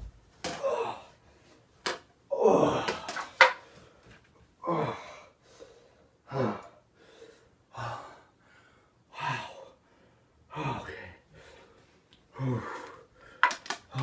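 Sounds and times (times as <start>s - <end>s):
person breathing hard: 2.8s - 14.0s.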